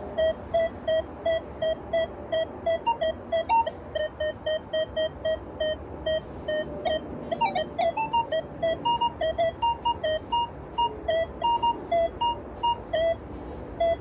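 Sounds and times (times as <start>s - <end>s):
metal detector higher tones: 0.0s - 13.2s
metal detector low beeps: 0.0s - 13.2s, 13.8s - 14.0s
metal detector warble: 0.0s - 13.2s.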